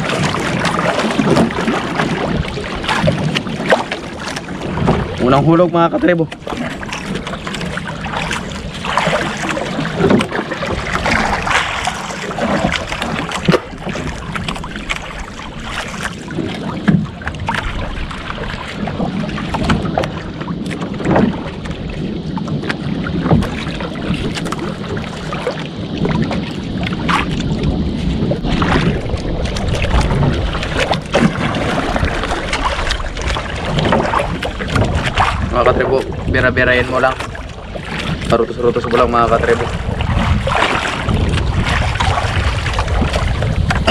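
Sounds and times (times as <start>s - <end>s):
knocks and splashes: 0.0s - 43.9s
waves slapping a boat hull: 0.0s - 43.9s
wind buffeting microphone: 0.0s - 43.9s.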